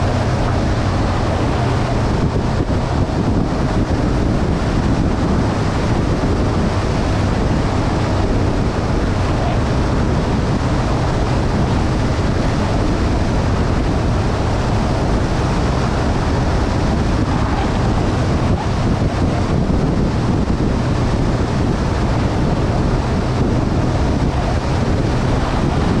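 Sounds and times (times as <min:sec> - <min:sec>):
motorcycle engine hum: 0:00.0 - 0:26.0
wind rushing on microphone: 0:00.0 - 0:26.0.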